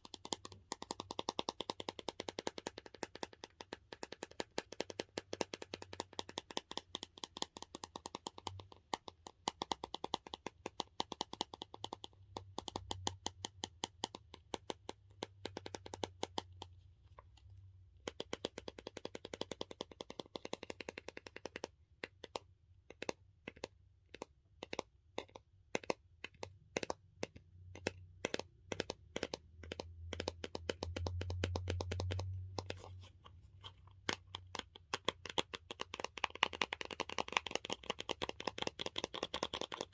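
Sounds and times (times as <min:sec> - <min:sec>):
rapid tapping on hard plastic: 0:00.0 - 0:39.9.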